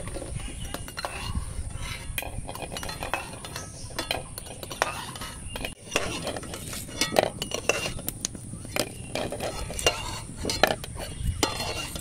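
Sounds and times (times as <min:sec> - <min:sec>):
metal spoon scraping steel pot: 0:00.0 - 0:12.0.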